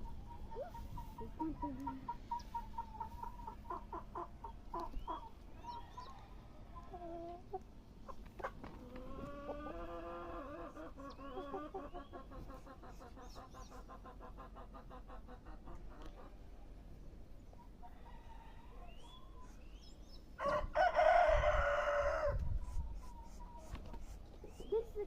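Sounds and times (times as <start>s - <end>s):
poultry clucking: 0.0s - 25.0s.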